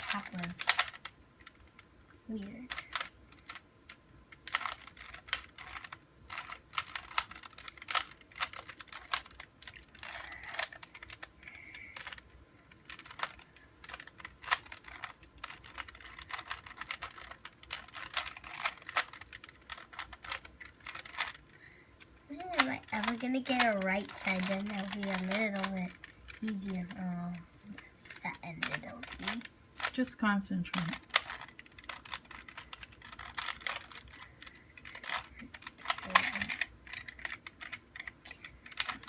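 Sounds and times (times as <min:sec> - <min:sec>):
puzzle cube clicking and clacking: 0:00.0 - 0:39.0.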